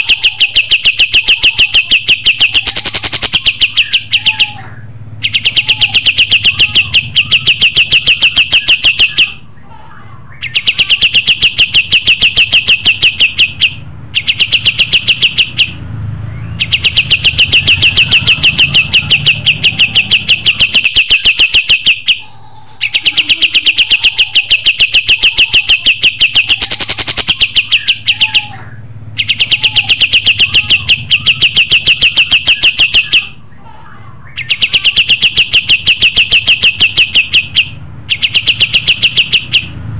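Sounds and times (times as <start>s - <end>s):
songbird chattering song: 0.0s - 9.5s, 10.3s - 33.6s, 34.2s - 39.8s.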